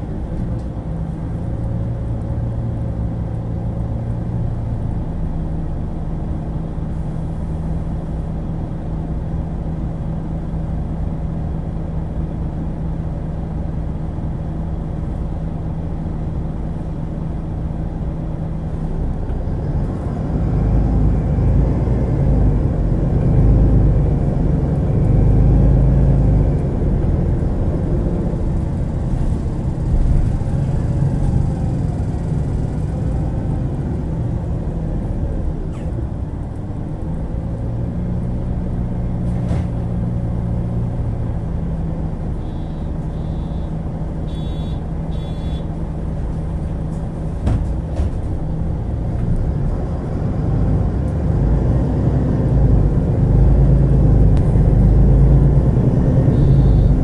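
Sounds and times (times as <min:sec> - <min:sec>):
bus diesel engine: 0:00.0 - 0:57.0
engine whine: 0:00.0 - 0:57.0.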